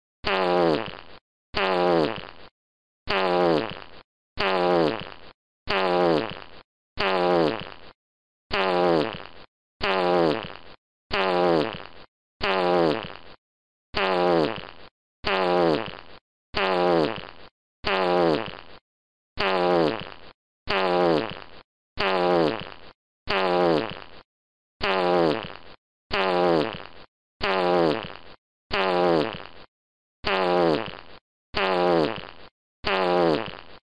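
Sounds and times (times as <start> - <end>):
fart sound effect: 0.2 - 2.5, 3.1 - 13.4, 14.0 - 18.8, 19.4 - 24.2, 24.8 - 33.8.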